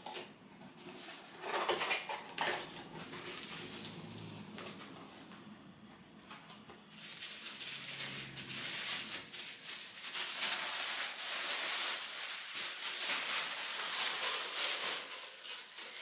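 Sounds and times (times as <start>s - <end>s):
paper rustling and crinkling: 0.0s - 5.3s, 6.3s - 16.0s.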